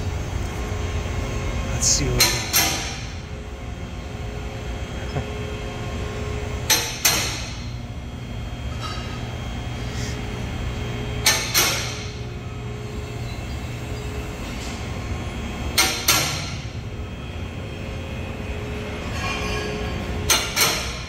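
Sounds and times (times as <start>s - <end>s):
hydraulic pump motor hum: 0.0s - 19.0s.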